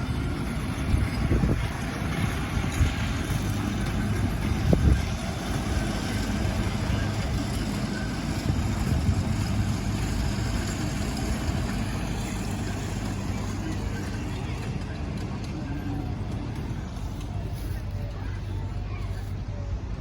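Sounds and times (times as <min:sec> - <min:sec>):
small train engine hum: 0:00.0 - 0:20.0.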